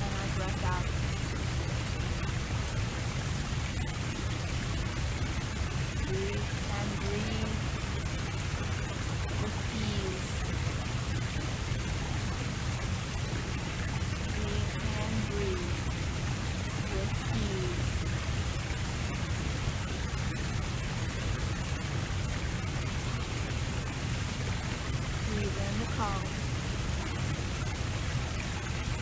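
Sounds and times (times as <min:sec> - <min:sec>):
low rumble: 0:00.0 - 0:29.0.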